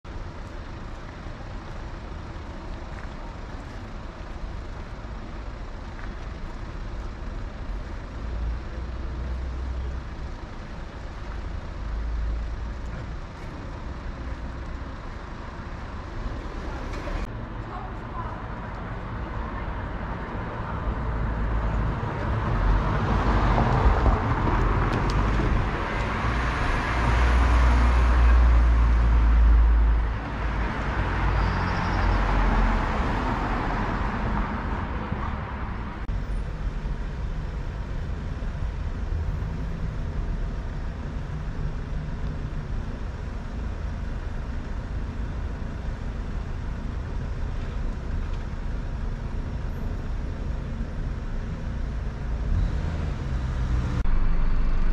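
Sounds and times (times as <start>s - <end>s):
vehicles driving past: 0.1s - 54.9s.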